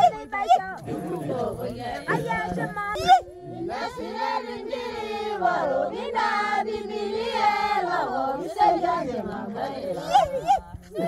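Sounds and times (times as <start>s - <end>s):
group of women singing: 0.0s - 11.0s.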